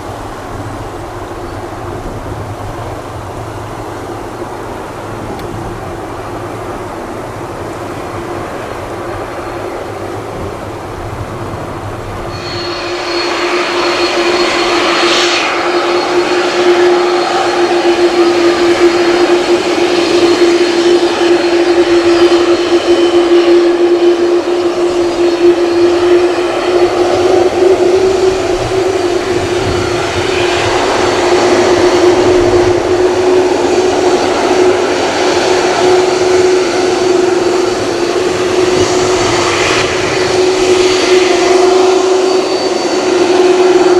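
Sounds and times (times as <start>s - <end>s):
jet engines running: 0.0s - 43.9s.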